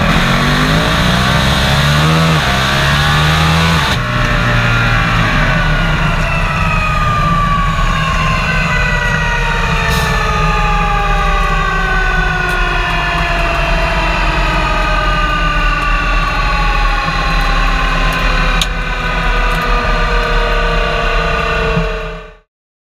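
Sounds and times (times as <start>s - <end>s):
low engine rumble: 0.0s - 22.3s
engine whine: 0.0s - 22.5s.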